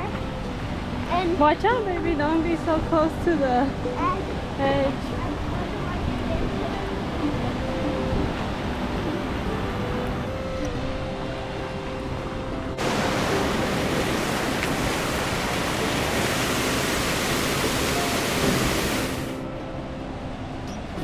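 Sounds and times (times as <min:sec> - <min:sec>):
waterfall rushing: 0:00.0 - 0:19.6
soft background music: 0:00.0 - 0:21.0.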